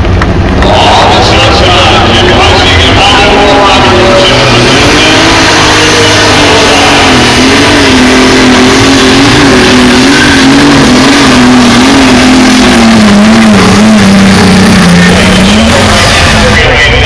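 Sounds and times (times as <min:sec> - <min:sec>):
tractor engine at full throttle: 0:00.0 - 0:17.0.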